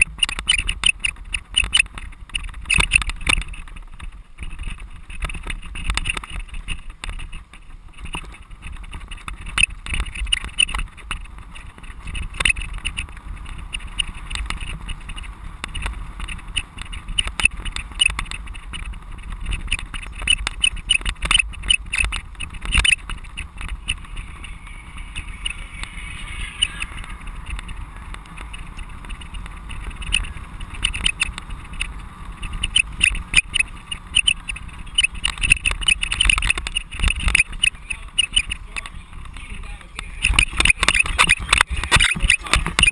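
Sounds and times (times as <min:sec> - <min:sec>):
camera rattling and knocking: 0:00.0 - 0:42.9
wind buffeting microphone: 0:00.0 - 0:42.9.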